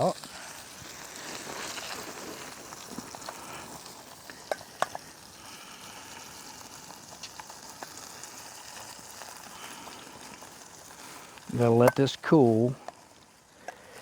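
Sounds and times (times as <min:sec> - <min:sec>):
burgers sizzling in a frying pan: 0:00.0 - 0:14.0.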